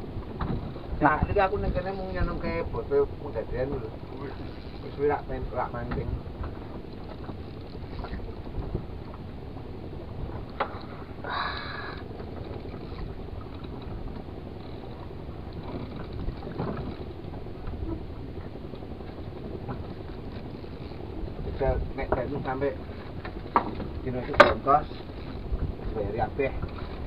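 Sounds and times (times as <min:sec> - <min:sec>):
choppy sea: 0:00.0 - 0:27.0
wind rumble: 0:00.0 - 0:27.0.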